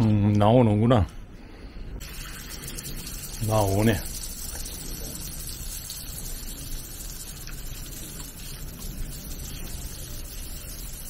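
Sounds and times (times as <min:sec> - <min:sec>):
water running from tap: 0:02.0 - 0:11.0.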